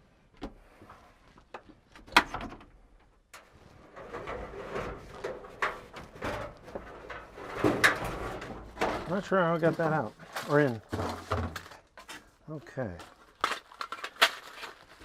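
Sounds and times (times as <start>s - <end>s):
clunks and knocks of parts handled: 1.4s - 15.0s.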